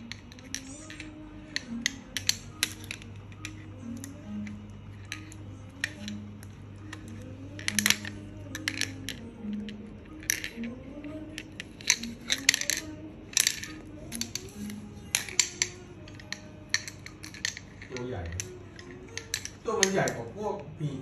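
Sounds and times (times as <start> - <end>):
plastic toy clattering on tile: 0.0 - 20.3
soft background music: 0.0 - 21.0.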